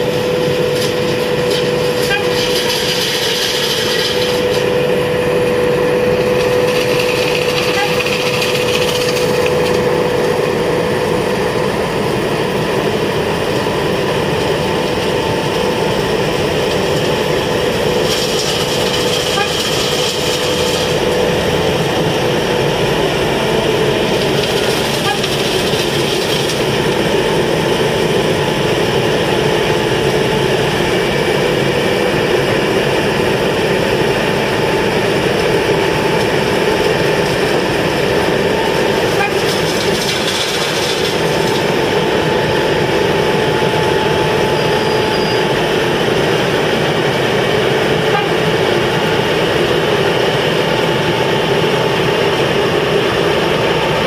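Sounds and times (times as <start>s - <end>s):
paving machinery running: 0.0s - 54.0s.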